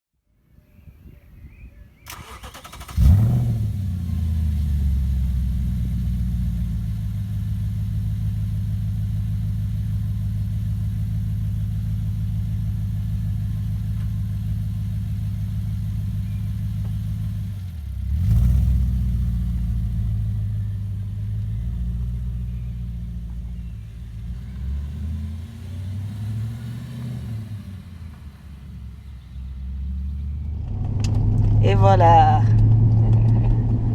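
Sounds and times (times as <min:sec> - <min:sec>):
car engine starting and idling: 0:02.0 - 0:33.9.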